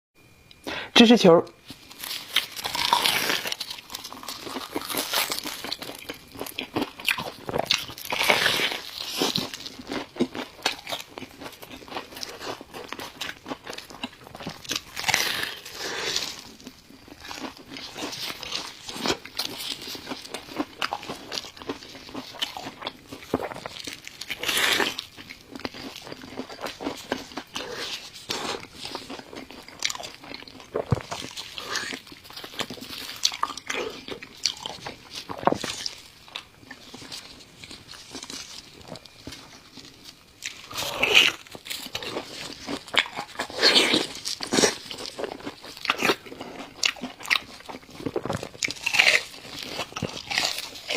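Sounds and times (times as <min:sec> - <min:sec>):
crunching and chewing: 0:01.6 - 0:50.9.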